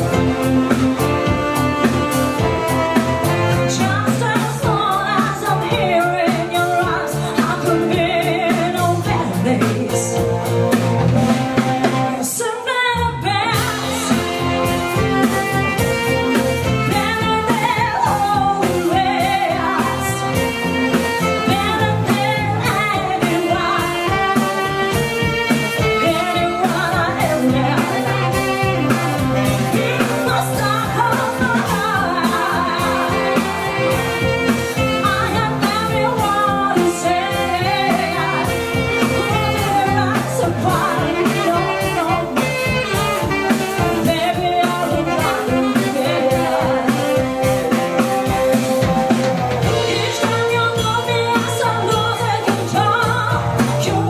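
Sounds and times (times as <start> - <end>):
walking bass line: 0.0 - 12.4, 13.0 - 54.0
drum kit: 0.0 - 54.0
woman singing lead: 0.0 - 54.0.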